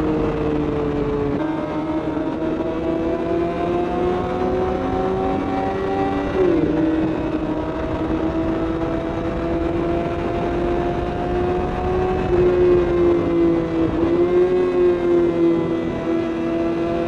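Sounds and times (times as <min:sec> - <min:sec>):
motorcycle engine cruising: 0:00.0 - 0:17.0
wind rush: 0:00.0 - 0:17.0.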